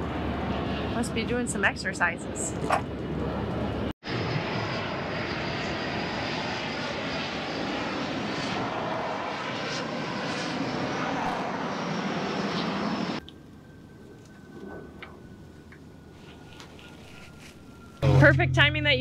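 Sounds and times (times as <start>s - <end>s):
fighter jet flying overhead: 0.0s - 19.0s.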